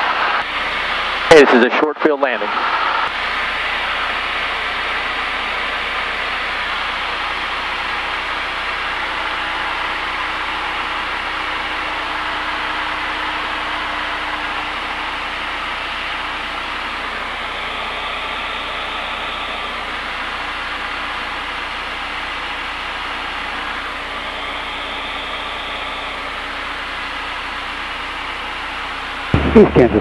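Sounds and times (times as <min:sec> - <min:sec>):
airplane engine and propeller: 0:00.0 - 0:30.0.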